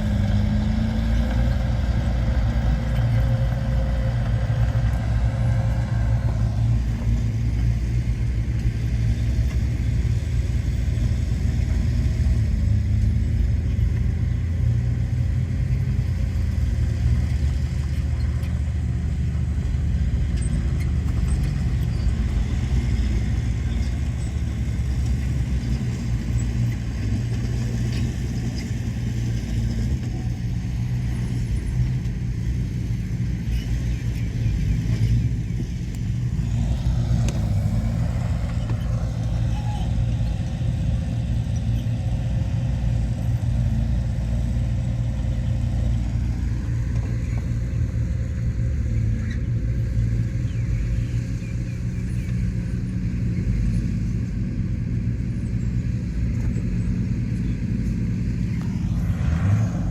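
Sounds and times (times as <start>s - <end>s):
diesel earthmoving machinery rumbling: 0.0s - 59.9s.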